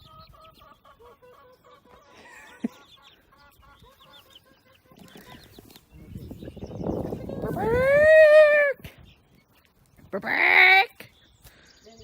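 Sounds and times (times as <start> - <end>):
chickens clucking: 0.0 - 11.6.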